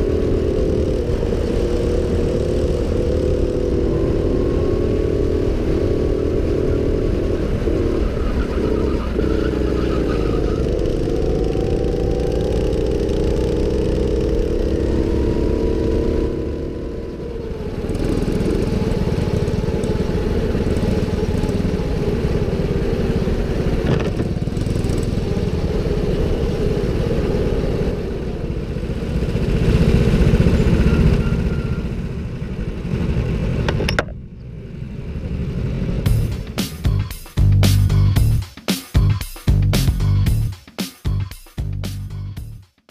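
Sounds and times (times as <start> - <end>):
go-kart engine revving: 0.0 - 36.6.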